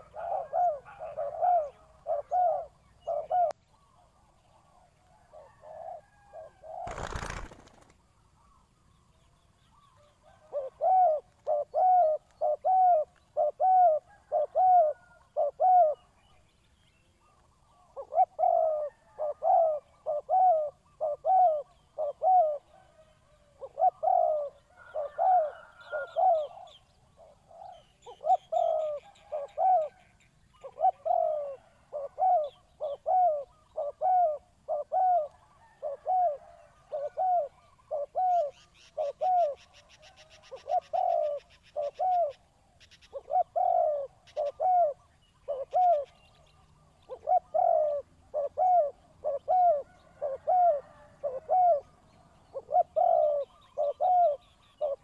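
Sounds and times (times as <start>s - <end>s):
dove cooing: 0.0s - 8.6s, 9.8s - 16.4s, 17.2s - 55.0s.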